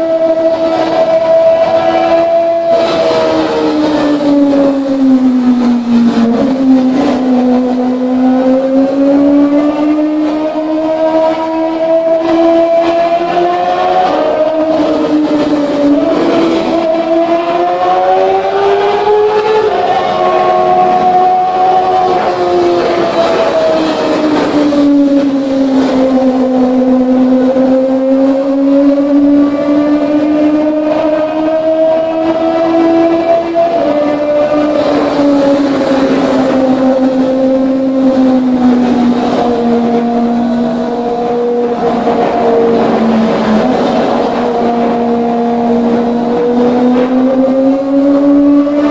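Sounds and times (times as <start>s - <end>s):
motorcycle engine revving high: 0.0s - 48.9s.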